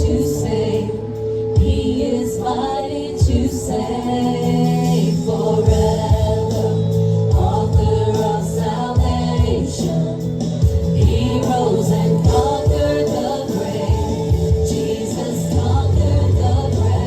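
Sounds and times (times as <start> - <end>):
gospel music with singing: 0.0 - 17.0.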